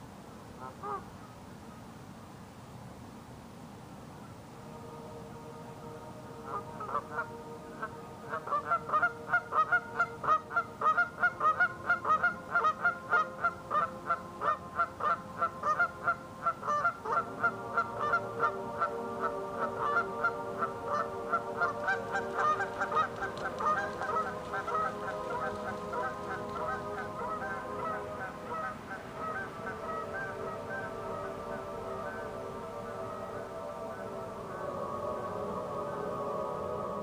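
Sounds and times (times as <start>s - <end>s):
geese honking: 0.6s - 1.1s, 4.6s - 37.0s.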